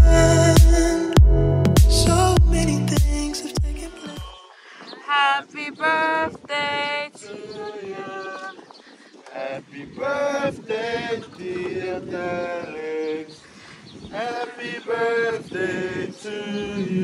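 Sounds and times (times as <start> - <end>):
group singing without instruments: 0.0 - 17.0.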